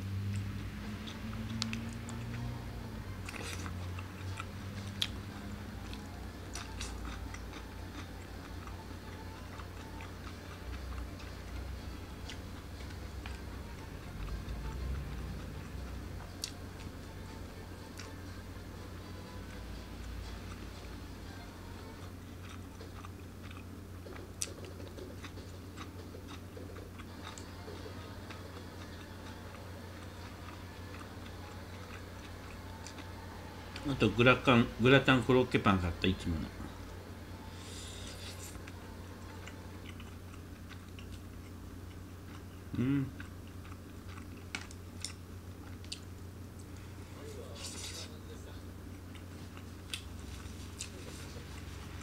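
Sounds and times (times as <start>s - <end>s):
man chewing food: 0.0s - 52.0s
steady low hum: 0.0s - 52.0s.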